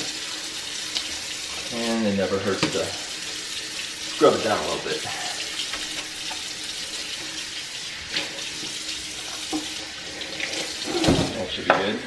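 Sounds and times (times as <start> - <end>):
faucet running into a metal sink: 0.0 - 12.0.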